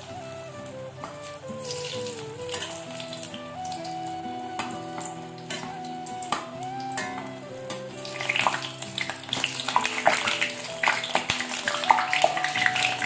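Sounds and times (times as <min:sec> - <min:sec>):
background music with held notes: 0:00.0 - 0:13.0
deep-frying sizzle and crackle: 0:00.0 - 0:13.0.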